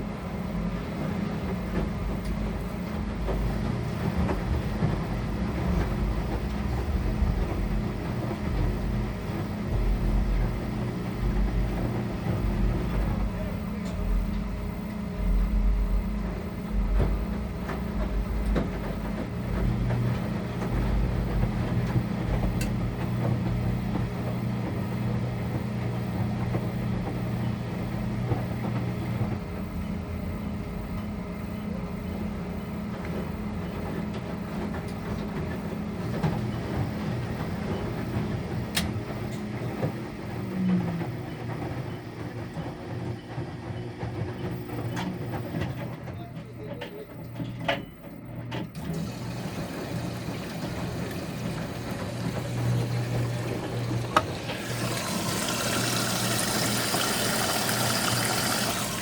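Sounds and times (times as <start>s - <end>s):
washing machine motor hum: 0.0s - 59.0s
washing machine rumble: 0.0s - 59.0s.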